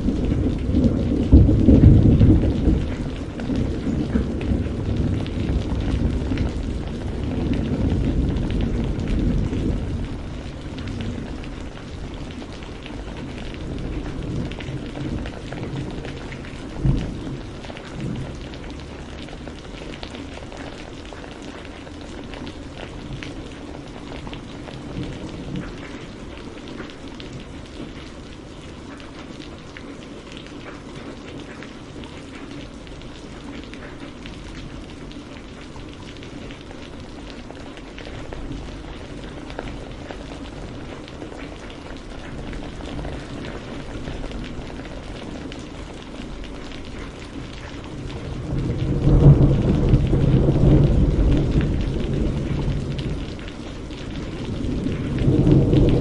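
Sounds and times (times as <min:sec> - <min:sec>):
low rumble of thunder: 0:00.0 - 0:56.0
steady rain falling: 0:00.0 - 0:56.0.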